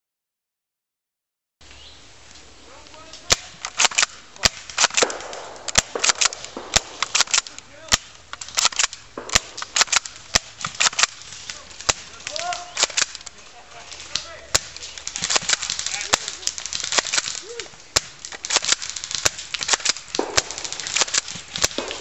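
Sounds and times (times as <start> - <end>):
airsoft guns firing: 3.2 - 13.4, 14.1 - 22.0.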